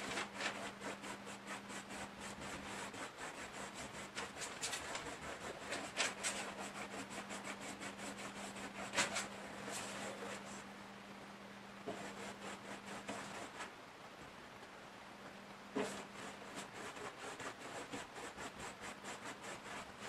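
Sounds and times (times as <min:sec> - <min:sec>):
scratchy rubbing strokes on backdrop: 0:00.0 - 0:10.7, 0:11.9 - 0:13.7, 0:15.7 - 0:20.0
steady low hum: 0:00.0 - 0:20.0.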